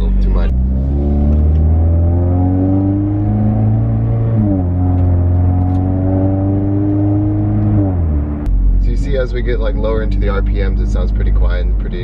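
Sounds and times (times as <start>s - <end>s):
car engine idling with deep drone: 0.0s - 12.0s.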